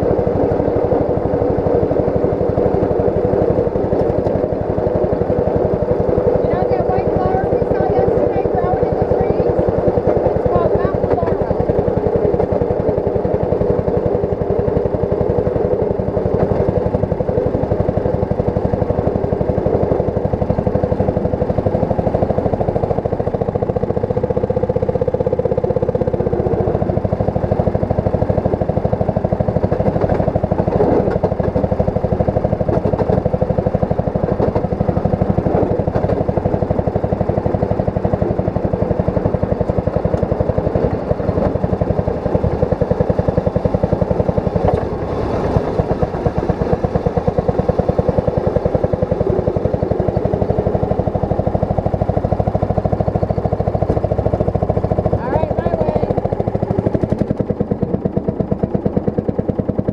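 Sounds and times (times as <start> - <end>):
small engine running: 0.0 - 59.9
wheels clacking on rails: 0.0 - 59.9.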